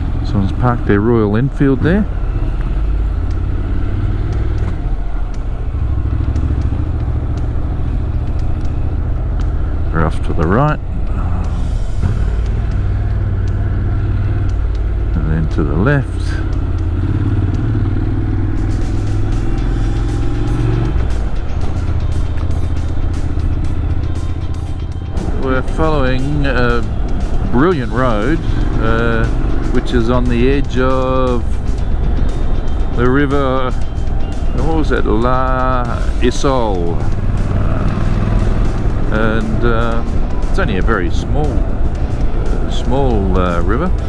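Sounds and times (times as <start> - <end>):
motorcycle engine drone: 0.0 - 44.0.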